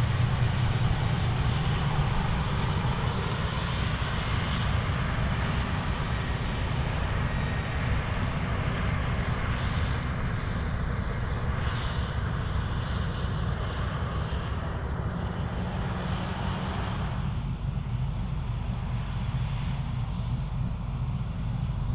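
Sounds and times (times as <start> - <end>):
combine harvester engine drone: 0.0 - 21.9.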